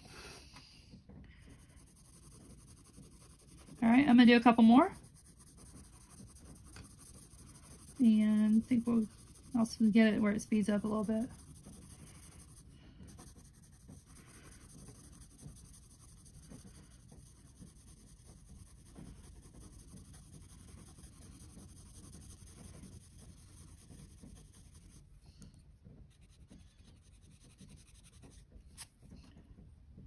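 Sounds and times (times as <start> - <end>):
pencil scratching on paper: 1.4 - 25.0, 26.1 - 28.9.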